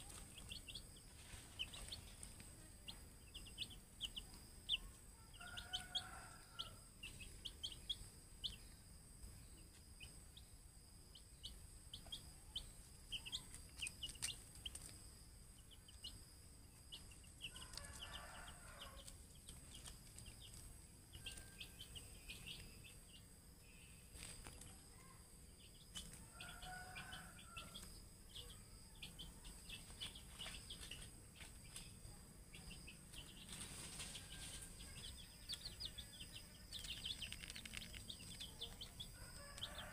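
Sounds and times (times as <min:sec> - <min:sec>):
chicks peeping: 0:00.0 - 0:10.5, 0:11.1 - 0:39.9.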